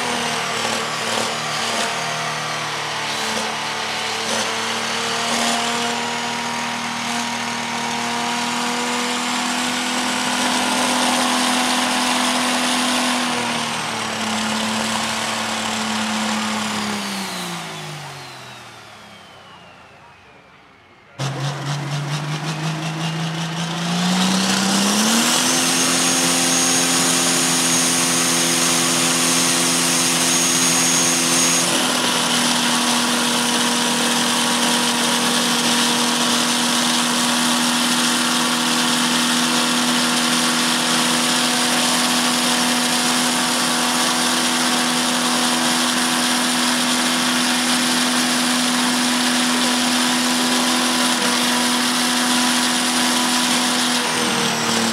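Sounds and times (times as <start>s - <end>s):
diesel engine revving: 0.0s - 19.9s, 21.1s - 54.9s.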